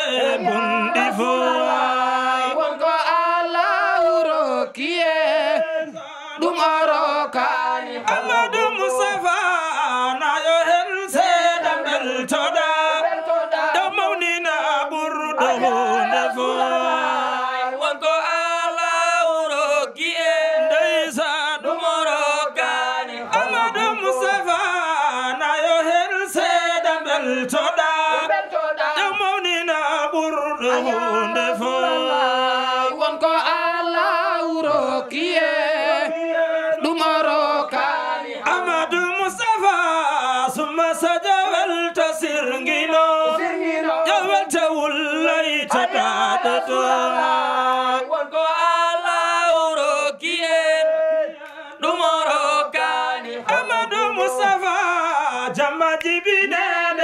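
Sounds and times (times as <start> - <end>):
men chanting together: 0.0 - 57.0.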